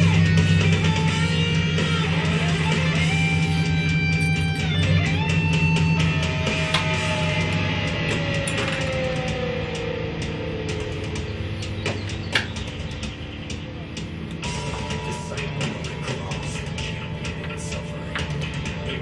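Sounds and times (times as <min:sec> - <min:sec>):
sliding guitar notes: 0:00.0 - 0:19.0
steady low bass: 0:00.0 - 0:19.0.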